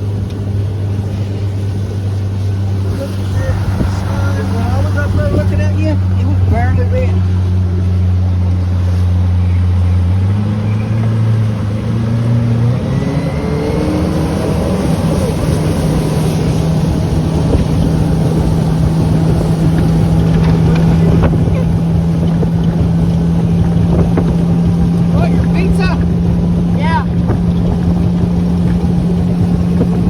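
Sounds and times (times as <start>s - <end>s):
motorboat engine: 0.0s - 30.0s.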